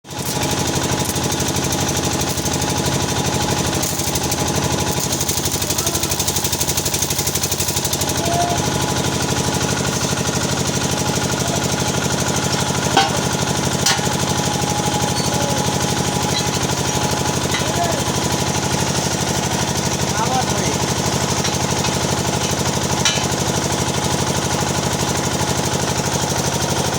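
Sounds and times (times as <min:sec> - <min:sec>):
arc welding buzzing crackle: 0:00.2 - 0:26.7.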